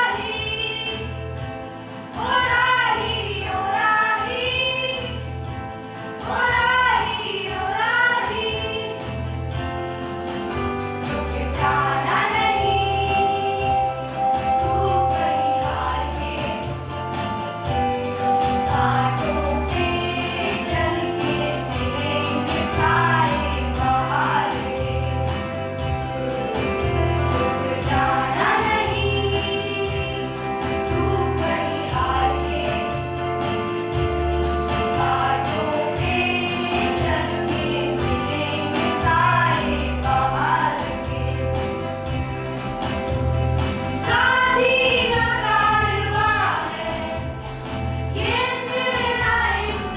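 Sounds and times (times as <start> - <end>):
group of voices singing: 0.0 - 1.4, 2.0 - 5.3, 6.1 - 9.3, 10.6 - 17.6, 18.2 - 25.6, 26.6 - 33.7, 34.7 - 42.1, 43.7 - 49.9
instrumental accompaniment with beat: 0.0 - 49.9.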